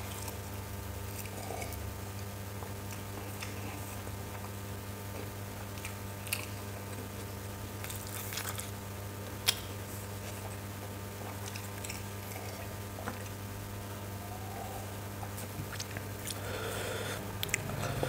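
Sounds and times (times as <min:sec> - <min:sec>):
person chewing food: 0:00.0 - 0:13.4, 0:14.6 - 0:18.0
low electrical hum: 0:00.0 - 0:18.0.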